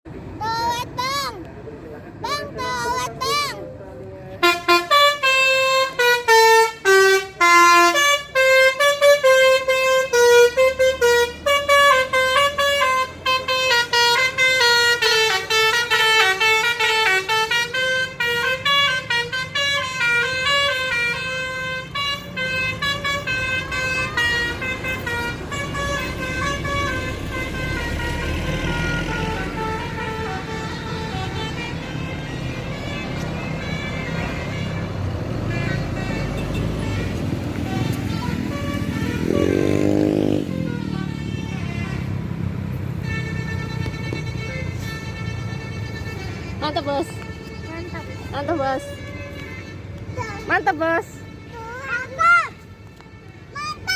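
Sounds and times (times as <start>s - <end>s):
bus musical horn tune: 4.4s - 53.9s.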